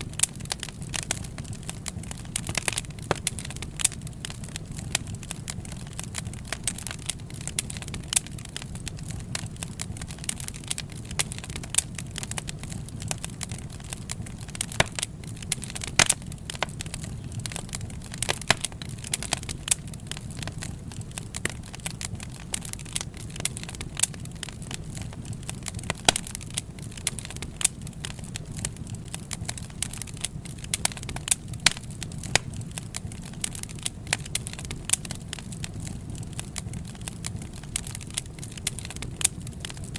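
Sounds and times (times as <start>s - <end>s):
rumble of flames: 0.0s - 39.9s
wood fire crackling and popping: 0.0s - 39.9s.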